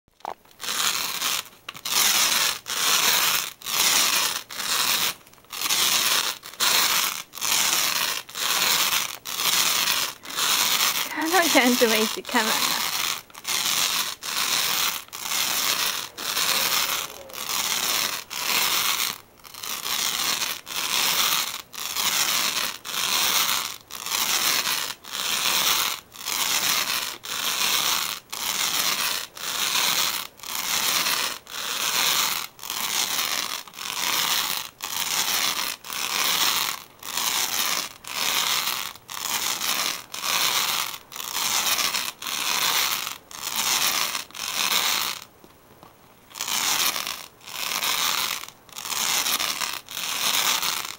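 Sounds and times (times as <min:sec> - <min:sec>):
lint roller rasping on straw mat: 0:00.2 - 0:45.3, 0:46.3 - 0:50.9.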